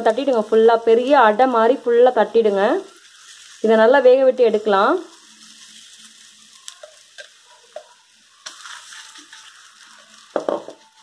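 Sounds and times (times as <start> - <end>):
batter sizzling on hot griddle: 0.0 - 11.0.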